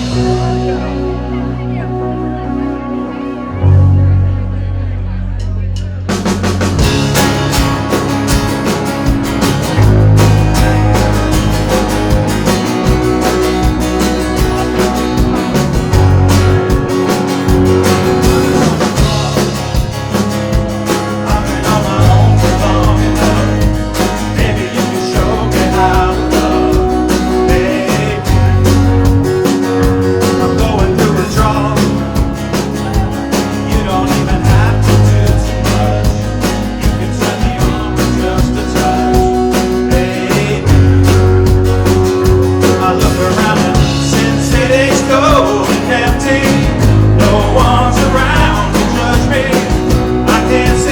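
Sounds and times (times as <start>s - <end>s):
drums keeping a steady beat: 0.0s - 1.3s, 5.4s - 50.9s
bass guitar: 0.0s - 50.9s
guitars: 0.0s - 50.9s
rock band playing: 0.0s - 50.9s
person singing: 9.8s - 50.9s.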